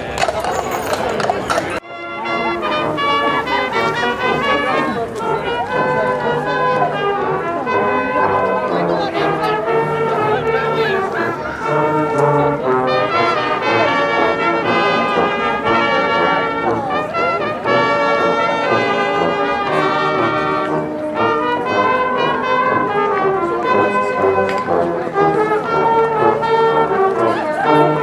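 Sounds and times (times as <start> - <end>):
marching band playing: 0.0 - 28.0.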